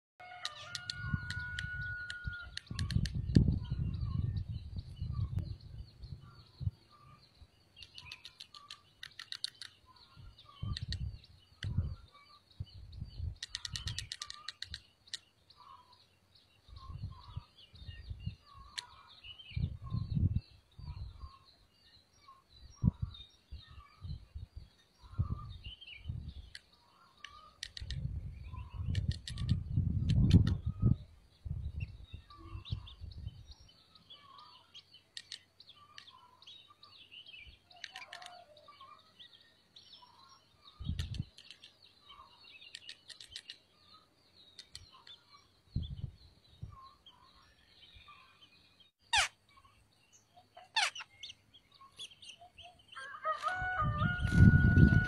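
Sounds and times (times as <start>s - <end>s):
birds chirping: 0.2s - 55.0s.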